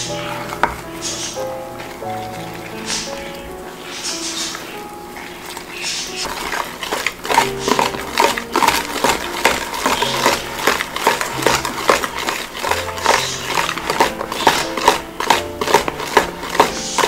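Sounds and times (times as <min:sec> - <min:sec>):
whisk beating batter in plastic bowl: 0:00.0 - 0:04.8, 0:05.5 - 0:17.0.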